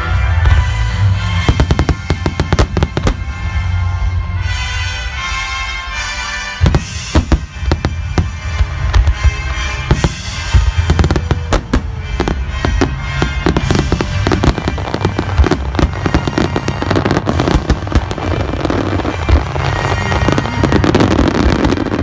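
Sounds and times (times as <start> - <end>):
music from loudspeakers: 0.0 - 22.0
fireworks bangs: 0.5 - 22.0
fireworks crackling: 0.6 - 22.0.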